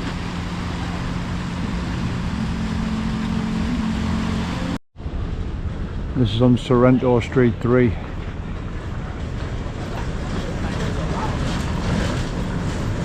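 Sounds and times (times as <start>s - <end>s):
engine drone with low hum: 0.0s - 13.0s
outdoor noise: 0.0s - 13.0s.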